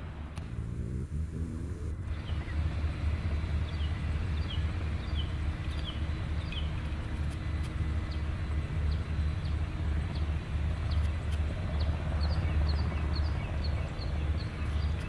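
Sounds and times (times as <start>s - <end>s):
helicopter rumble: 0.0s - 15.0s
bird chirping: 0.8s - 15.0s.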